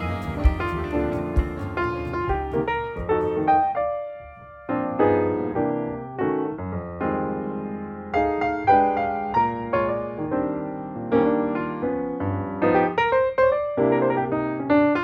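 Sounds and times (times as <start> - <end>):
piano melody with chords: 0.0 - 15.0.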